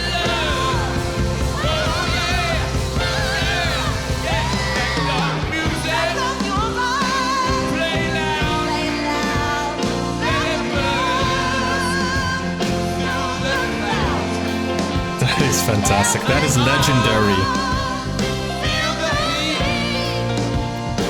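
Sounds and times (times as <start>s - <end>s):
powerful singing: 0.0s - 21.0s
rock band playing: 0.0s - 21.0s.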